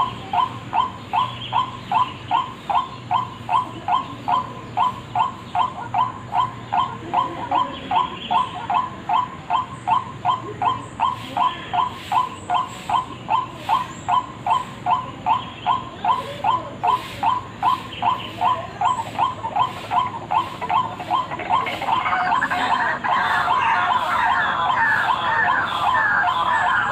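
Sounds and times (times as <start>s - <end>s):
waterhen calling: 0.0s - 26.9s.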